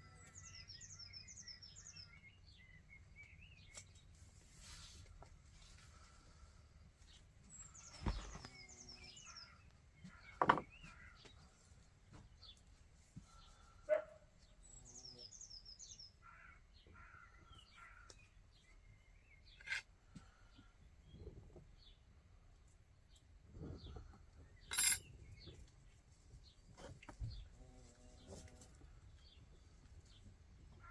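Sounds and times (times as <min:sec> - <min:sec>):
songbirds chirping: 0:00.0 - 0:30.9.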